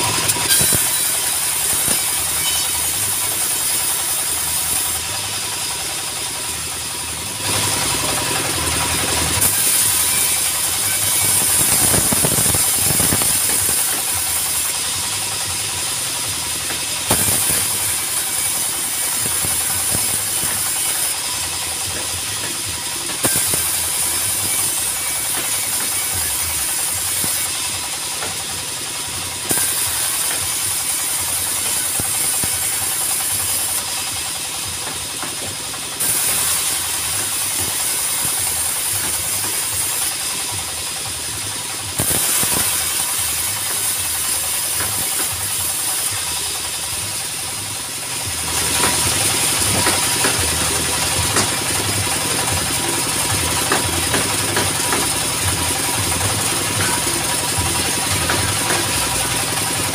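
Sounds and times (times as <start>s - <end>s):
engine running: 0.0s - 59.9s
sawmill saw ripping boards: 0.0s - 59.9s.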